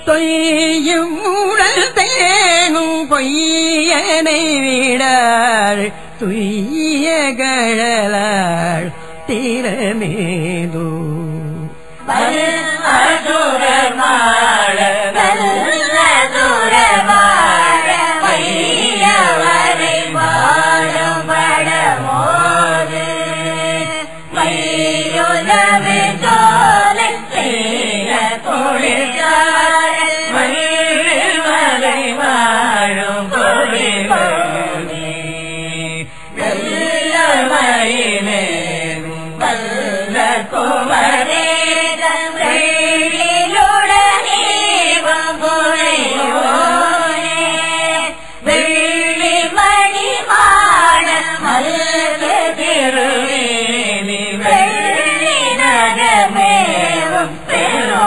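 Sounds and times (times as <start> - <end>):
person singing devotional song: 0.0 - 58.0.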